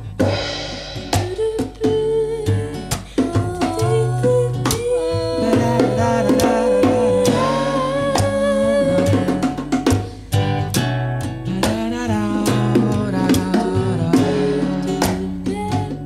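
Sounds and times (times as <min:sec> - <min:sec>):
acoustic guitar: 0:00.0 - 0:16.0
bongo hits: 0:00.0 - 0:16.0
women singing: 0:01.2 - 0:10.1, 0:11.6 - 0:16.0.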